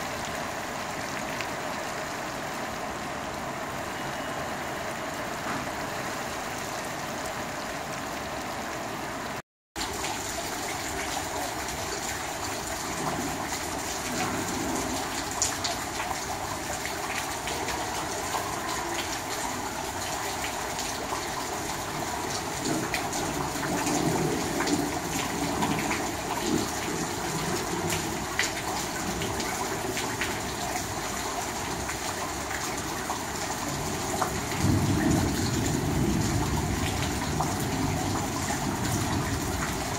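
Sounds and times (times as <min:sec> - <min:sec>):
raindrops splashing in water: 0:00.0 - 0:39.9.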